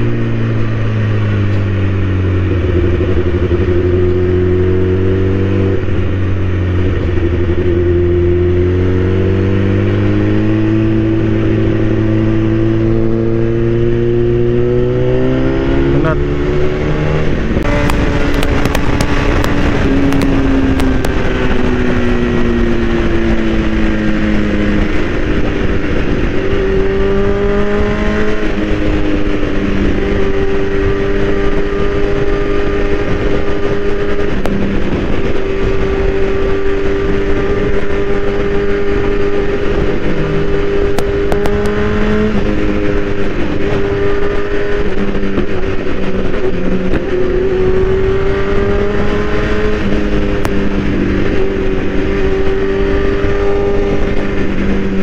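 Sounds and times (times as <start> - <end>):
motorcycle engine at speed: 0.0 - 55.0
wind rush: 0.0 - 55.0.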